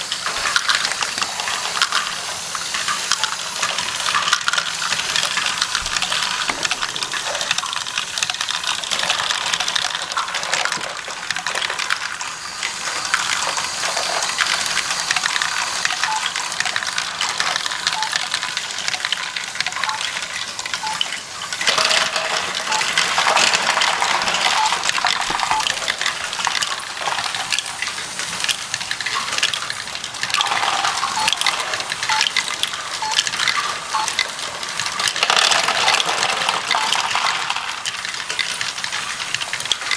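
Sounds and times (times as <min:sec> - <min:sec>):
plastic bricks clattering: 0:00.0 - 0:39.9.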